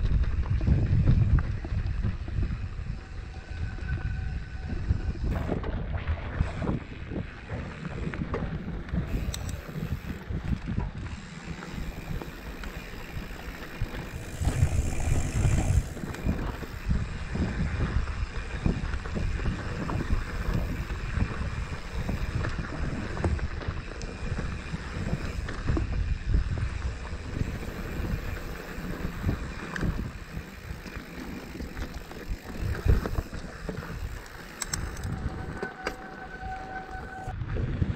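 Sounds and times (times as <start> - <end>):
bike rattling over bumps: 0.0 - 37.9
bike tyres rumbling on dirt: 0.0 - 37.9
wind buffeting microphone: 0.0 - 37.9.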